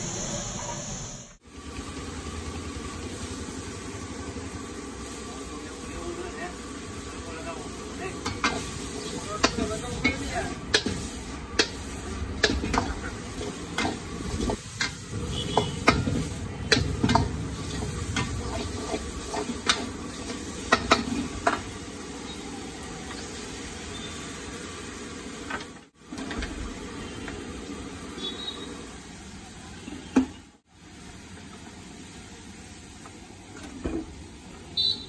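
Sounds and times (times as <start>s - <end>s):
frying oil sizzling: 0.0s - 35.0s.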